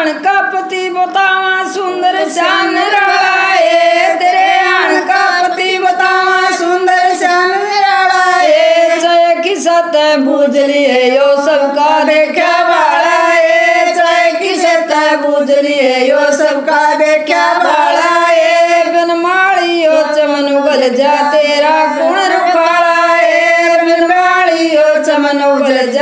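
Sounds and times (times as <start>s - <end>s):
women singing folk song in unison: 0.0s - 26.0s.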